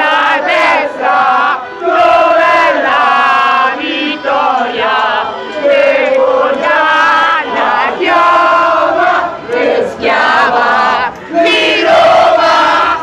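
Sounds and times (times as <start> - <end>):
crowd chanting: 0.0 - 13.0.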